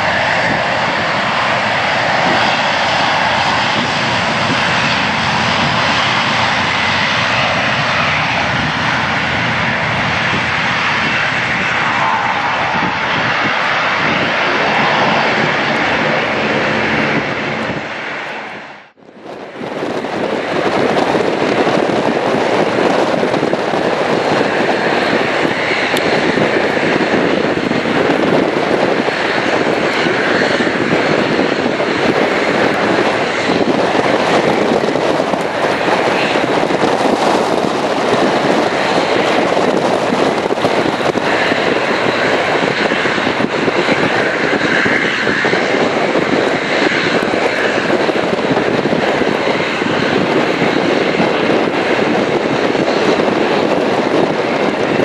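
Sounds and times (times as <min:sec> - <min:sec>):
turboprop engines running: 0:00.0 - 0:55.0
wind noise on microphone: 0:00.0 - 0:55.0.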